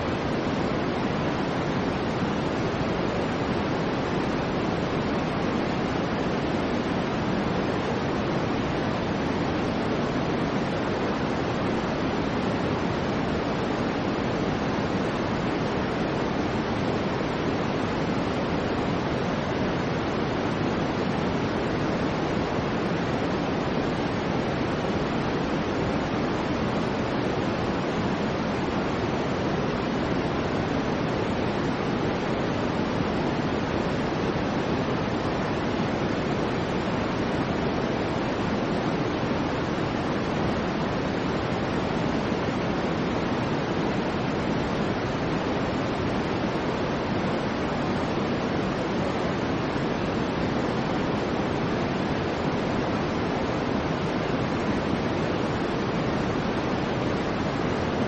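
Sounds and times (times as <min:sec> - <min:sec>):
white noise: 0:00.0 - 0:58.0.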